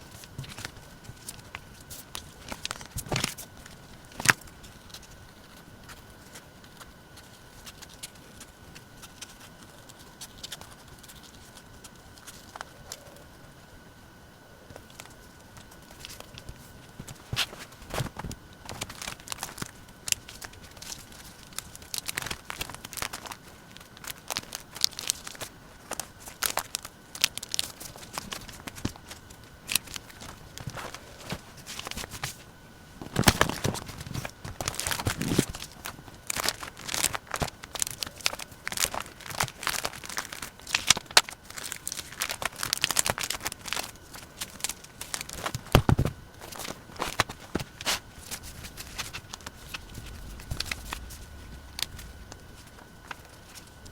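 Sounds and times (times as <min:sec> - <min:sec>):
paper crinkling and rustling: 0:00.0 - 0:13.3, 0:14.6 - 0:53.9.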